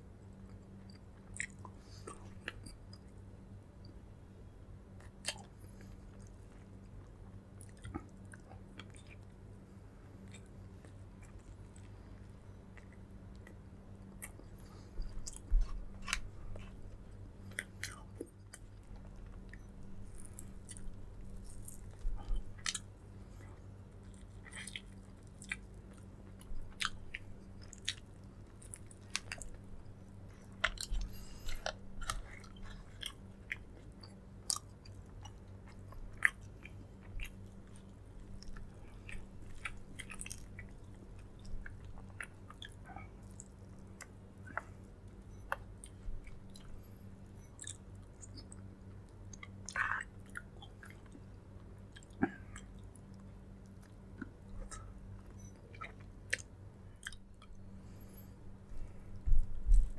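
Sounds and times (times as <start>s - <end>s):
low hum: 0.0s - 59.9s
person chewing food: 0.4s - 3.2s, 5.0s - 9.3s, 10.1s - 59.9s.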